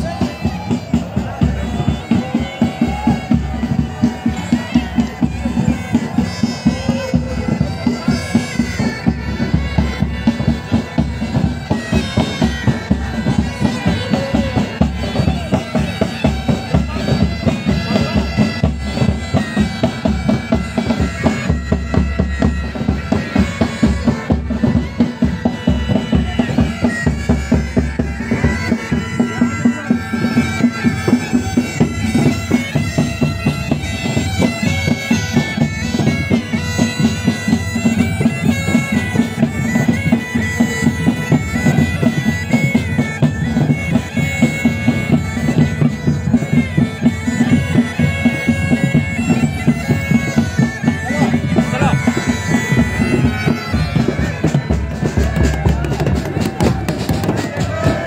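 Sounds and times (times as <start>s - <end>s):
bagpipes playing: 0.0s - 58.0s
marching drums: 0.0s - 58.0s.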